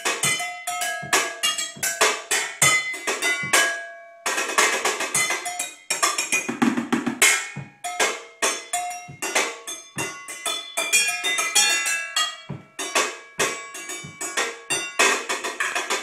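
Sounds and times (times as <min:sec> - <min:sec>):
knives drumming on metal pots: 0:00.0 - 0:16.0.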